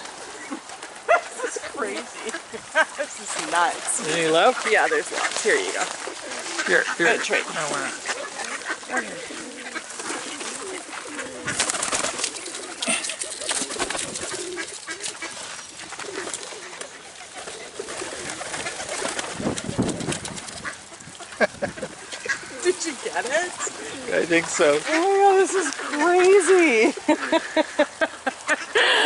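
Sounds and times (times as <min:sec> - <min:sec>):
birds rustling and clicking: 0:00.0 - 0:28.8
pigeons cooing: 0:00.0 - 0:29.0.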